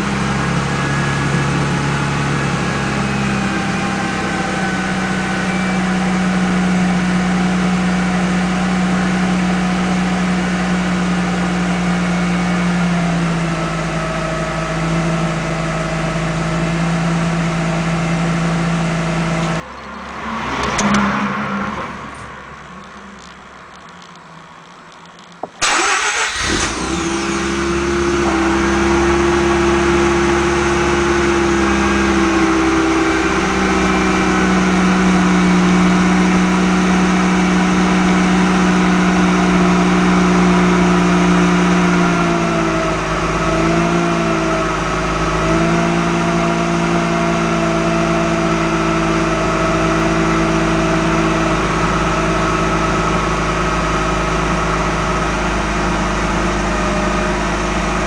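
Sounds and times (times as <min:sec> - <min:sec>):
rotary engine starting and idling: 0:00.0 - 0:58.0.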